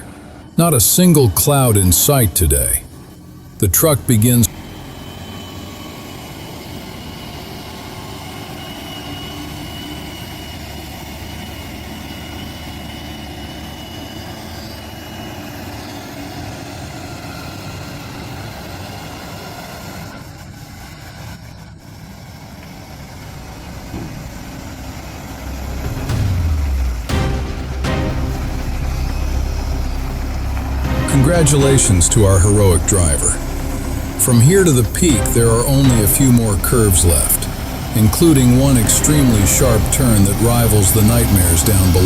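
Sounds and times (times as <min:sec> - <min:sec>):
road noise: 0:00.0 - 0:42.0
truck diesel engine running: 0:00.0 - 0:42.0.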